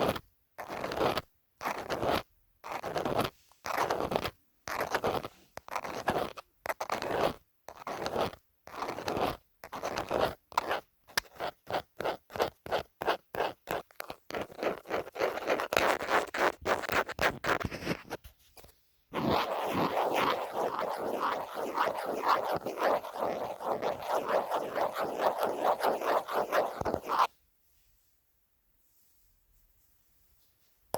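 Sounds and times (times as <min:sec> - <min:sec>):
phone case being scratched: 0:00.0 - 0:18.2, 0:19.1 - 0:27.3.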